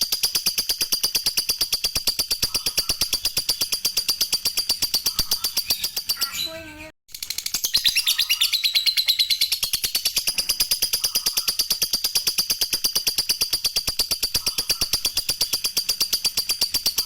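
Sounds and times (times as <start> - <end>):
lovebird chattering trill: 0.2 - 17.0.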